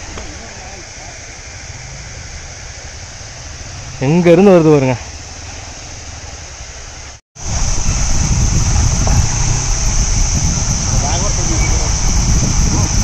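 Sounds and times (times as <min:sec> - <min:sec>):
jeep engine running: 0:00.0 - 0:13.0
steady high hiss: 0:00.0 - 0:13.0.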